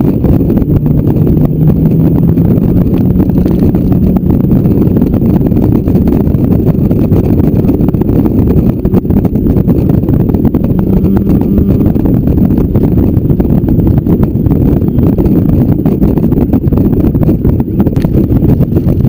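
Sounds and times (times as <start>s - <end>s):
motorcycle engine drone: 0.0s - 19.0s
wind rumble on microphone: 0.0s - 19.0s.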